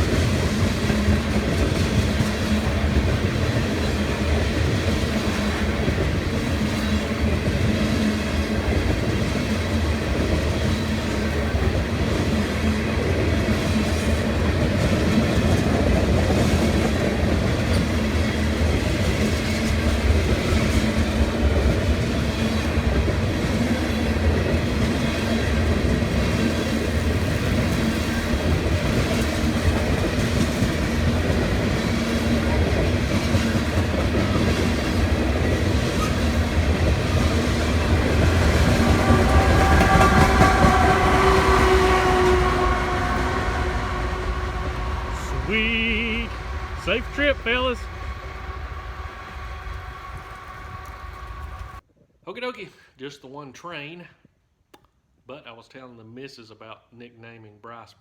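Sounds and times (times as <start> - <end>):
freight train rolling past: 0.0 - 51.8
wheels clattering on rails: 0.0 - 51.8.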